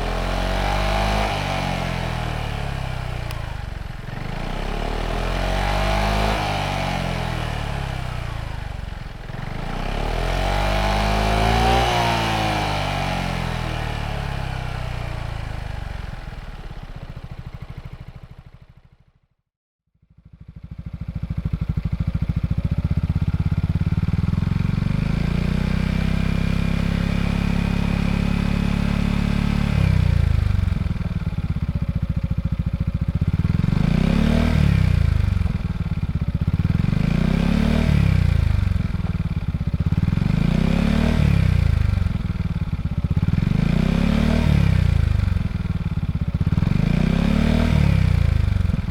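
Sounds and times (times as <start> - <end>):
scooter engine idling: 0.0 - 19.2, 20.1 - 48.9.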